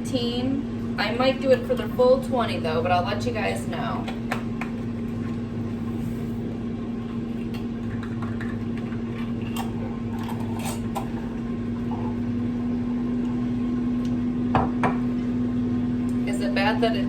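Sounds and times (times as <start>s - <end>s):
air fryer fan hum: 0.0s - 17.0s.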